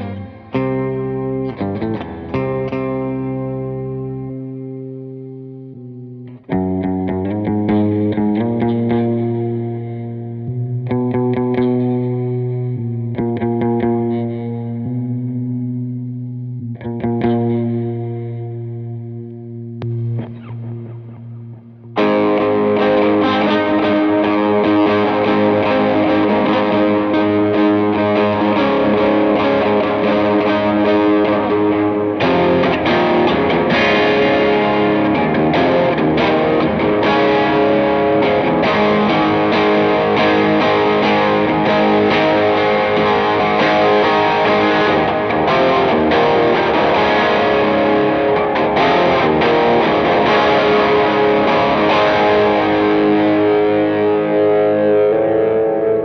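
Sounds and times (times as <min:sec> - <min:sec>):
electric guitar chords: 0:00.0 - 0:56.0.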